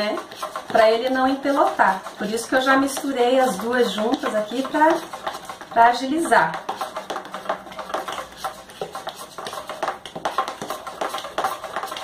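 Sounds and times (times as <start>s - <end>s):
metal spoon scraping glass bowl: 0.0s - 9.7s.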